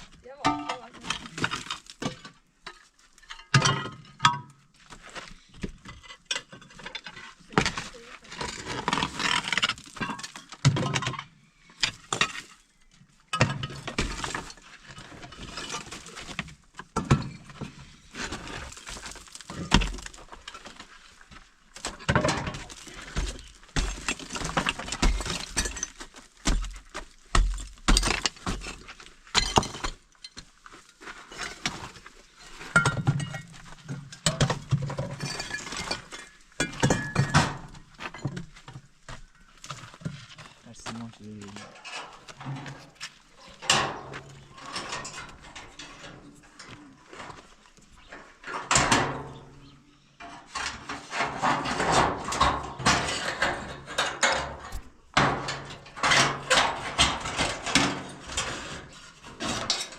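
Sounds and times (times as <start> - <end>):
debris clattering down: 0.3 - 4.4, 5.9 - 12.6, 13.3 - 38.9, 41.6 - 47.5, 50.2 - 59.9.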